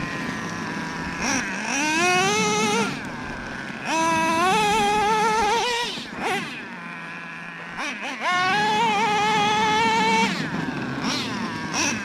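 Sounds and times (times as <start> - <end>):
model truck engine revving: 0.0 - 12.0.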